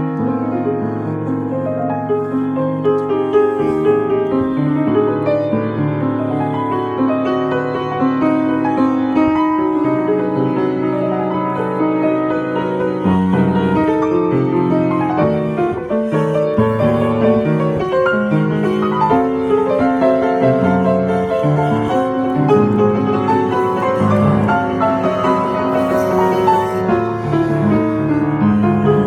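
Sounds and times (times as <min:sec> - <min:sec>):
solo piano playing: 0:00.0 - 0:29.0.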